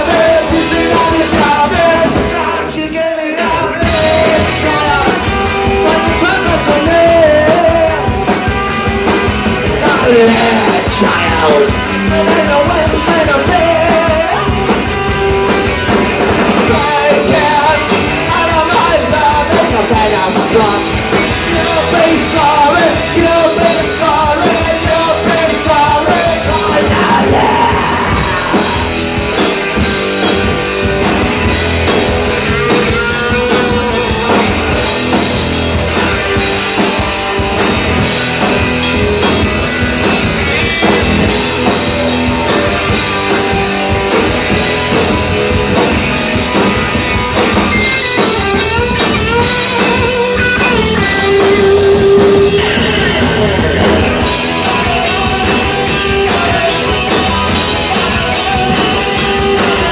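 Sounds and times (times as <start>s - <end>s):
punk rock band playing: 0.0s - 59.9s.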